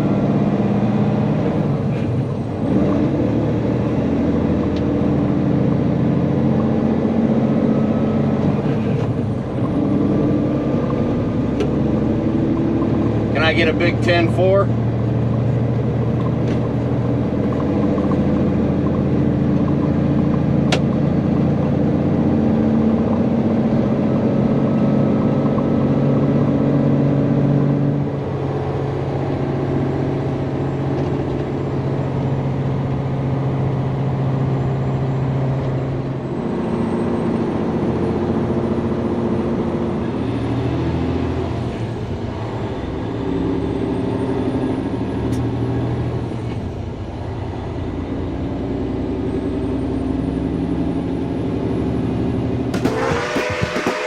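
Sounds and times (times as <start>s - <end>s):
large diesel engine running: 0.0s - 54.0s.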